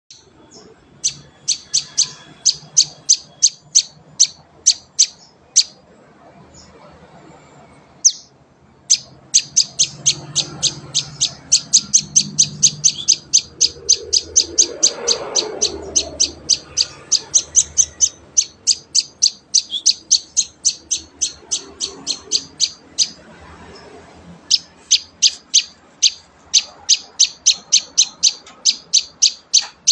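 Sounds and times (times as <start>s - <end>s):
bird chick chirping: 0.1s - 5.8s, 8.0s - 29.9s.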